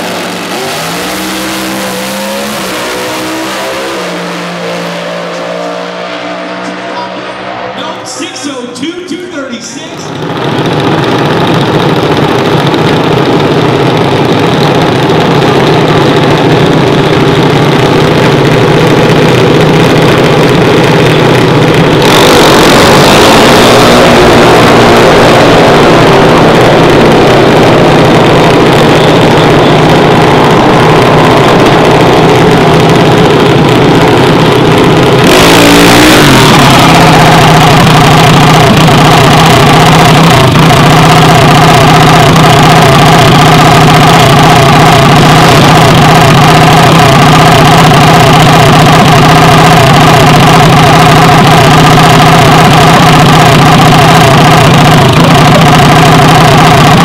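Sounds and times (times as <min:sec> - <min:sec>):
single-cylinder engine running: 0:00.0 - 0:08.7, 0:09.8 - 0:57.0.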